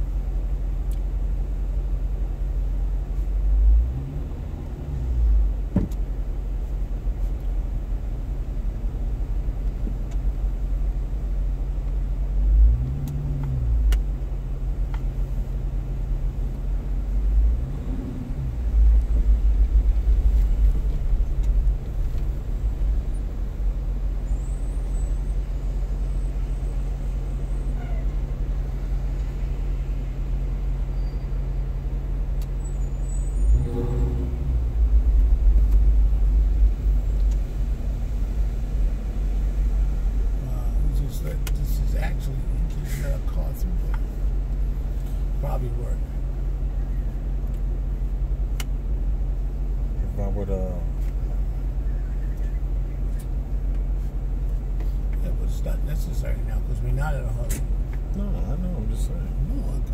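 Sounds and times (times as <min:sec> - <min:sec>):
car engine rumble: 0:00.0 - 0:59.9
road noise inside car: 0:00.0 - 0:59.9.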